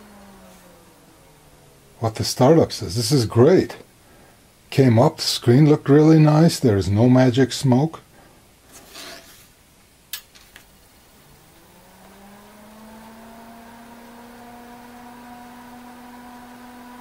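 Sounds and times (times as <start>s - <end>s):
cooling fan humming: 0.0s - 9.0s, 9.6s - 17.0s.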